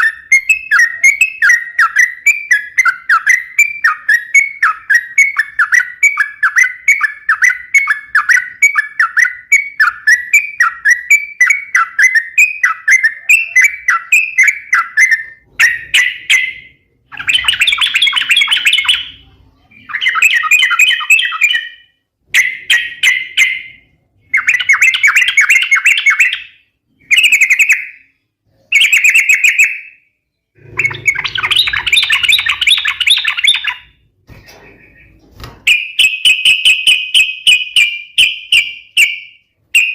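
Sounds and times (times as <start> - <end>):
bird song with chattering phrases: 0.0 - 39.9.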